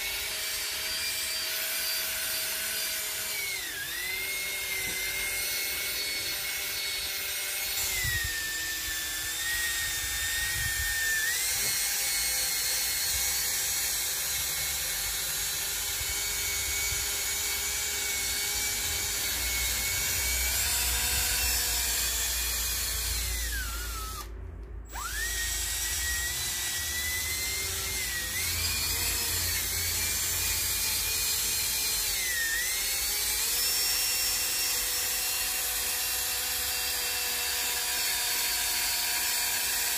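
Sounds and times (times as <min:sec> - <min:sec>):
cordless drill motor whine: 0:00.0 - 0:39.9.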